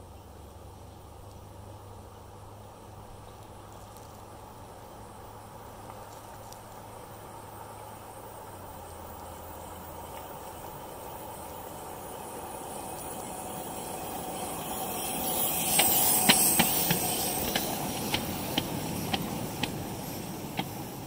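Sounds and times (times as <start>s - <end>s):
model steam locomotive passing: 0.0s - 21.0s
wheels clicking over rail joints: 0.0s - 21.0s.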